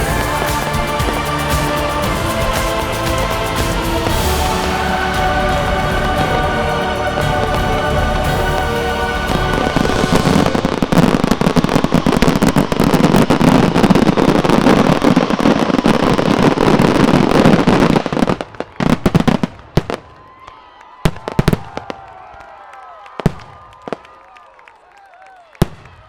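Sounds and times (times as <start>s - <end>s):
fireworks bursts and crackle: 0.0s - 20.3s, 21.0s - 22.2s, 23.2s - 24.2s, 25.6s - 26.0s.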